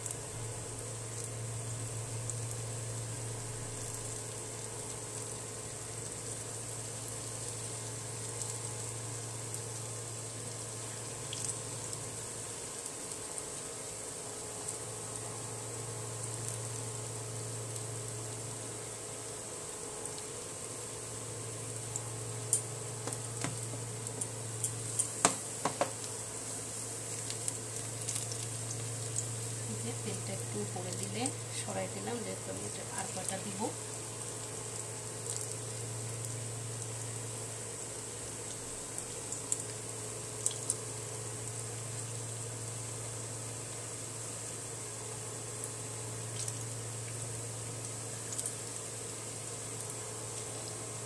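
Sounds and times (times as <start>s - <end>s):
batter sizzling in hot oil: 0.0s - 51.0s
steady low hum: 0.0s - 51.0s.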